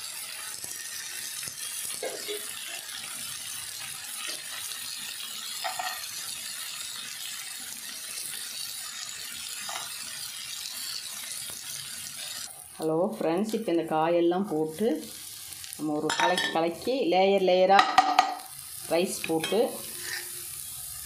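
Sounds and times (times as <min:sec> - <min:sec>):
oil sizzling in frying pan: 0:00.0 - 0:21.0.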